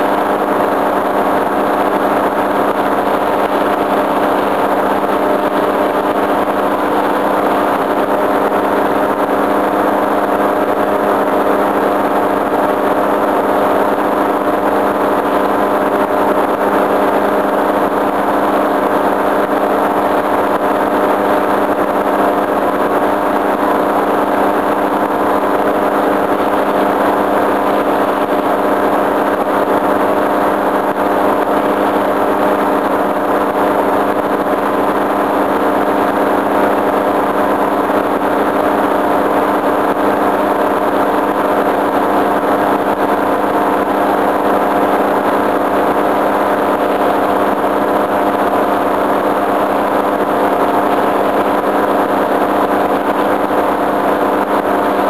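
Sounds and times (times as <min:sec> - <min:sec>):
paramotor engine and propeller: 0:00.0 - 0:55.0.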